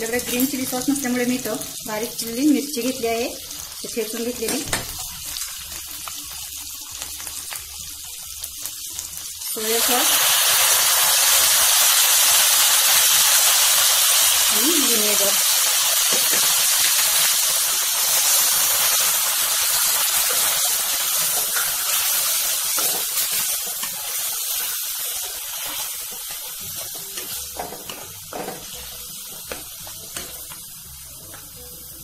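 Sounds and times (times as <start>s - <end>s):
sauce hissing in hot oil: 0.5s - 32.0s.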